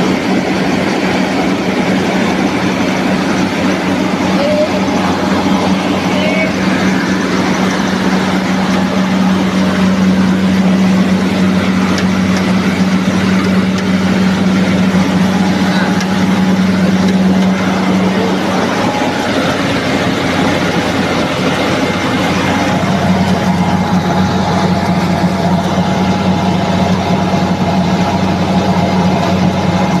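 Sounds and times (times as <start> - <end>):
rice milling machine running: 0.0 - 30.0.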